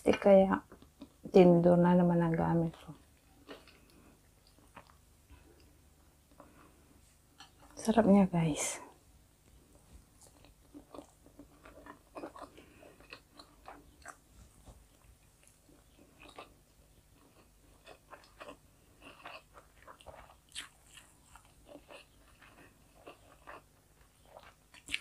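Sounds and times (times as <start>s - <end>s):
person chewing food: 2.9s - 7.8s, 8.9s - 25.0s.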